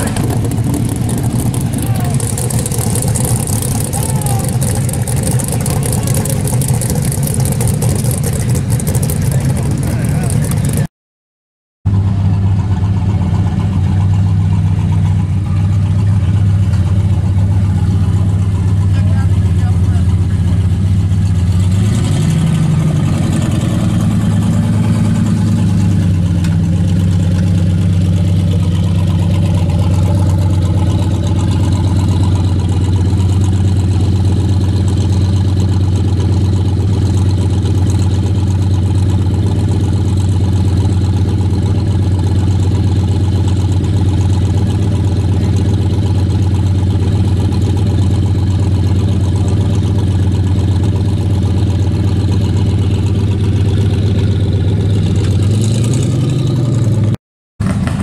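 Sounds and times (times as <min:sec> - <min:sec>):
car engine revving and idling: 0:00.0 - 0:10.9, 0:11.9 - 0:58.0.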